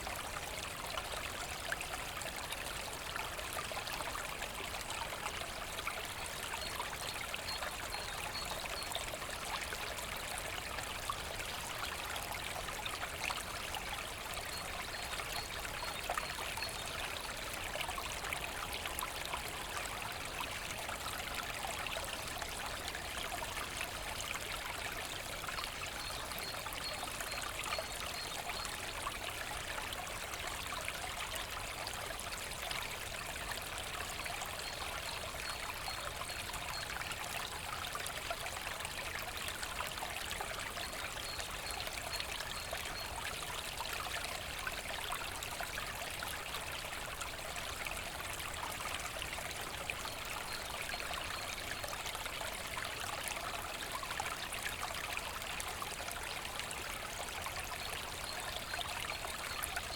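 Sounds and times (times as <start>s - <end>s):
brook babbling and trickling: 0.0s - 59.9s.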